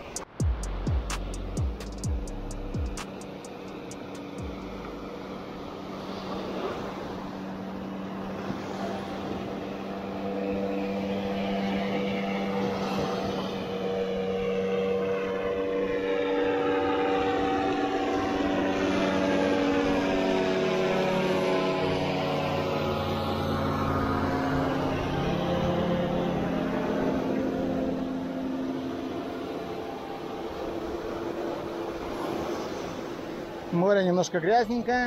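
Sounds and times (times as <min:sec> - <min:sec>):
aircraft engine droning: 0:00.0 - 0:35.0.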